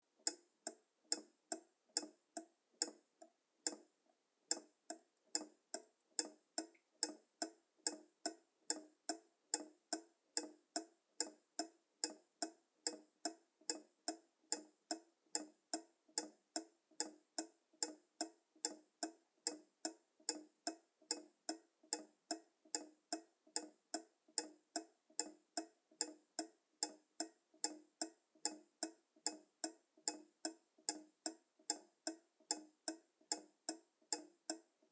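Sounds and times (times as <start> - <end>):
pendulum clock ticking: 0.2 - 34.9.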